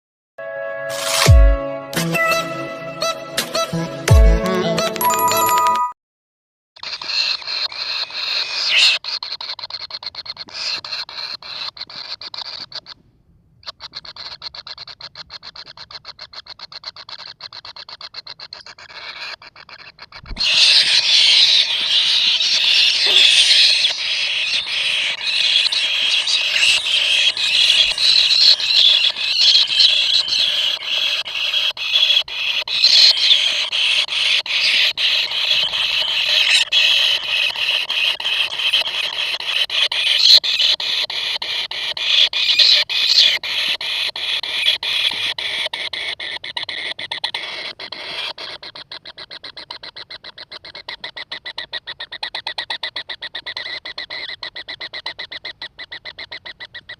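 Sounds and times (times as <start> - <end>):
nestlings squealing begging calls: 6.8 - 13.0, 13.6 - 56.9
nestlings ticking calls: 6.8 - 13.0, 13.6 - 56.9.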